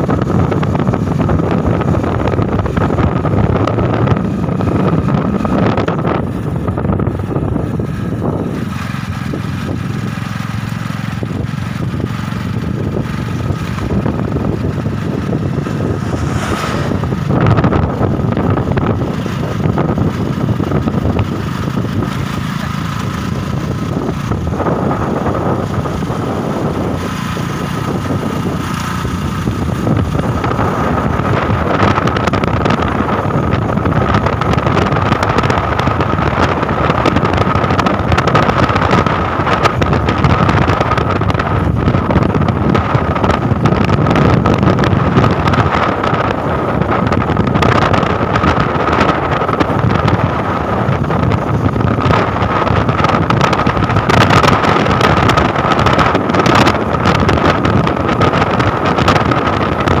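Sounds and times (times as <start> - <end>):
motorcycle engine running: 0.0 - 60.0
wind rushing over microphone: 0.0 - 60.0.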